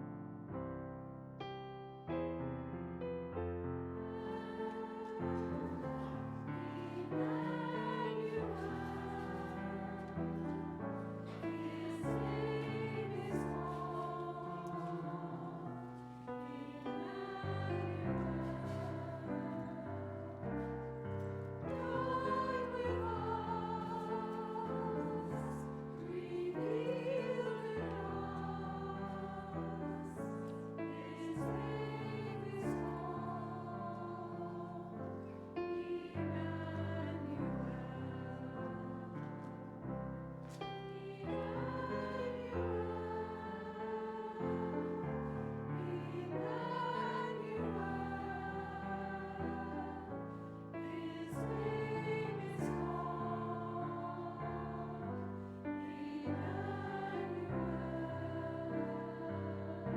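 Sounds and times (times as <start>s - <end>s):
piano accompaniment: 0.0s - 59.9s
choir singing: 3.9s - 39.7s, 40.6s - 59.9s.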